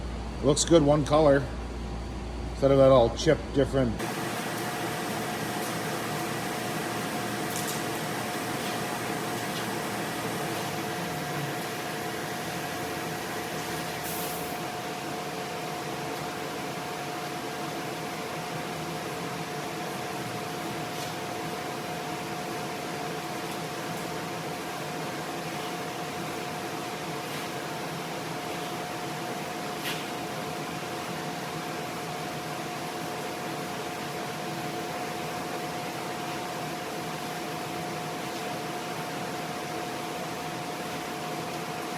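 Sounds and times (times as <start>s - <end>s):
machine hum with whine: 0.0s - 41.9s.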